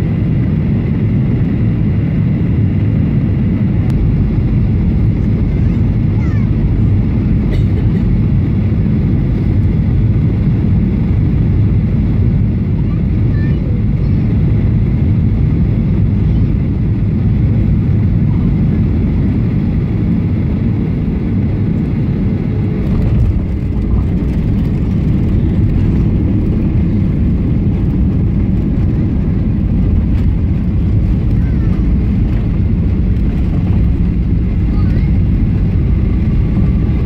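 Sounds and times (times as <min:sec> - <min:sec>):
airplane cabin engine rumble: 0:00.0 - 0:37.0.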